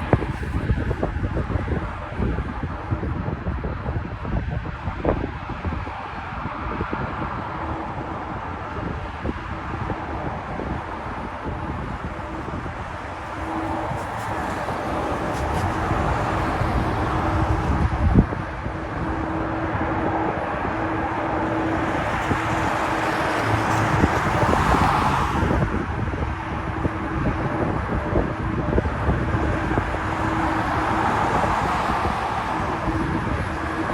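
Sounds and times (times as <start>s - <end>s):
jet engines at takeoff: 0.0s - 33.9s.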